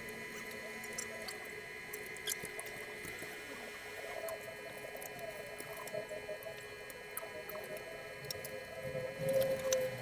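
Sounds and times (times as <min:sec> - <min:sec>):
incubator humming and whining: 0:00.0 - 0:10.0.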